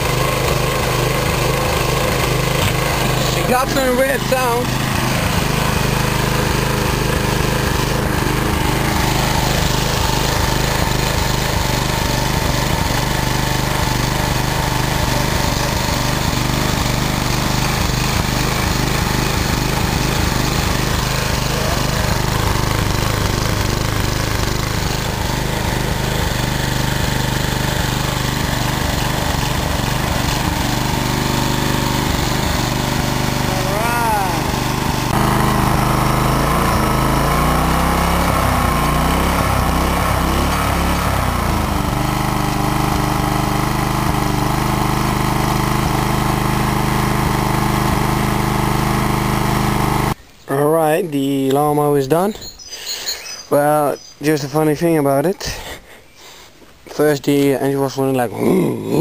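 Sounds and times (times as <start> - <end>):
lawn mower engine running: 0.0 - 50.2.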